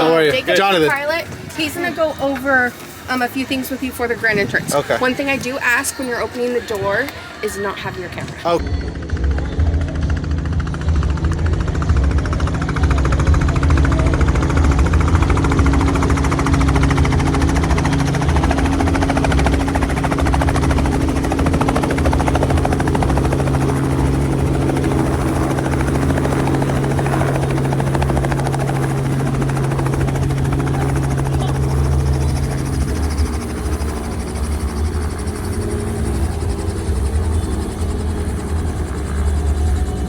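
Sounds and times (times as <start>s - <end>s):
helicopter engine hum: 0.0s - 40.0s
helicopter rotor blades chopping: 0.0s - 40.0s.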